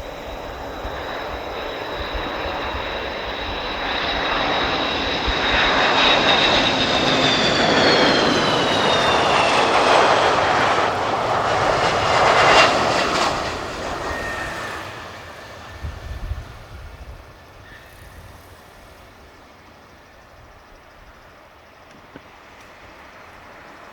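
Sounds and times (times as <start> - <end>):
jet aircraft roaring past: 0.0 - 23.9.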